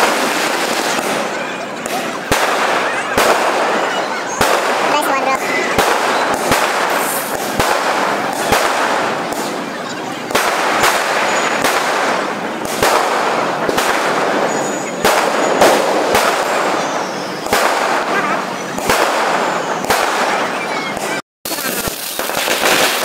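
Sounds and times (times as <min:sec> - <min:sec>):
firecracker crackle: 0:00.0 - 0:23.0
fireworks bangs: 0:00.0 - 0:23.0.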